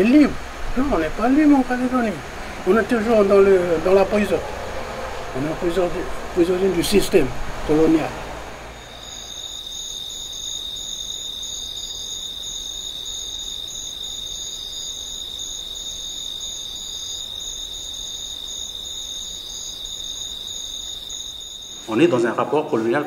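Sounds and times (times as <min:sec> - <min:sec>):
crickets trilling: 0:00.0 - 0:22.3.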